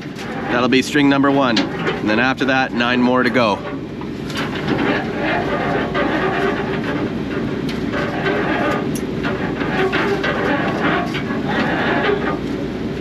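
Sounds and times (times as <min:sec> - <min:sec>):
boat engine running: 0:00.0 - 0:13.0
traps and line clattering: 0:00.0 - 0:13.0.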